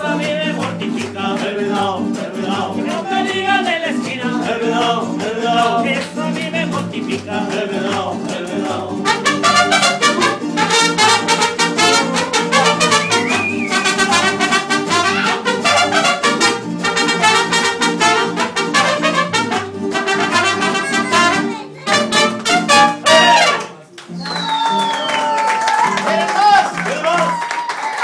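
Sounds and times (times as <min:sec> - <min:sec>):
mariachi band with trumpets: 0:00.0 - 0:28.0.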